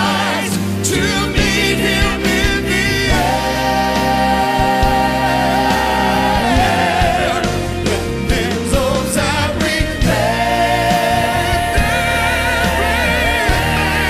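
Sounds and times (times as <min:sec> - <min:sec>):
full musical accompaniment: 0:00.0 - 0:14.0.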